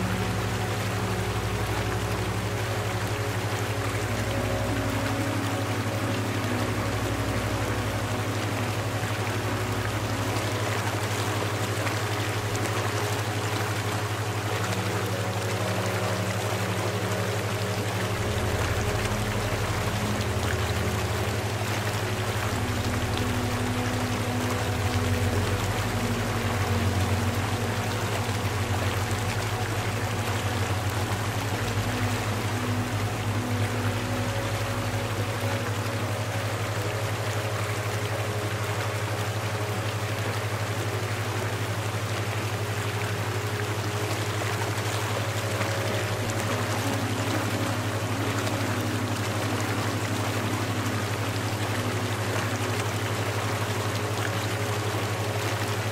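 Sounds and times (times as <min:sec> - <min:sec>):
low hum: 0:00.0 - 0:55.9
rushing water: 0:00.0 - 0:55.9.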